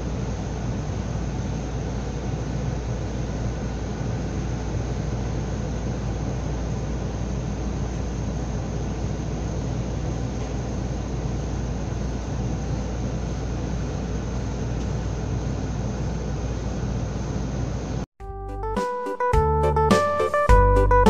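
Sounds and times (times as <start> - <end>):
train carriage hum and hiss: 0.0 - 18.1.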